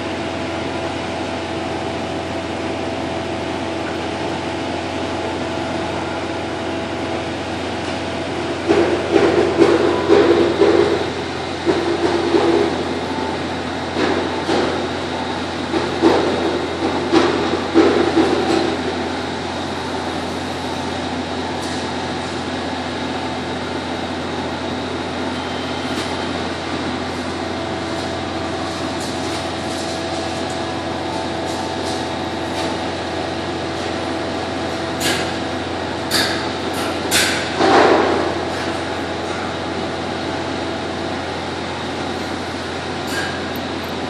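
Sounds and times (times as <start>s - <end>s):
mechanical hum: 0.0s - 44.0s.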